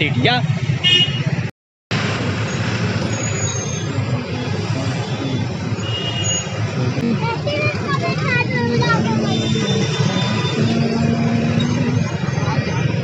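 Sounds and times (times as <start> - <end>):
busy street traffic: 0.0 - 13.0.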